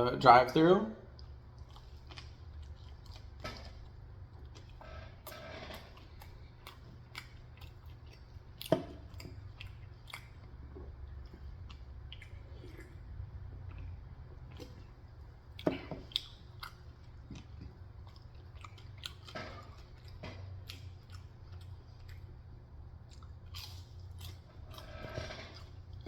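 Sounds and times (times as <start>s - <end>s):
person chewing food: 1.1s - 26.0s.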